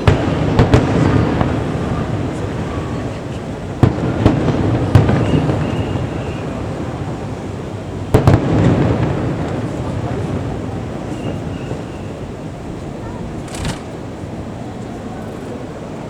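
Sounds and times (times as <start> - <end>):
fireworks bangs: 0.0 - 14.4
rumble of firework bursts: 0.0 - 14.8.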